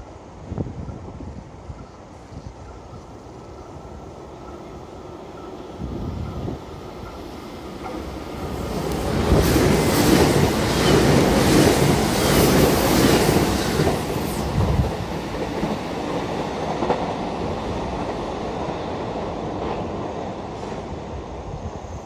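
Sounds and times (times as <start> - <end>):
train wheels clacking: 2.7 - 20.9.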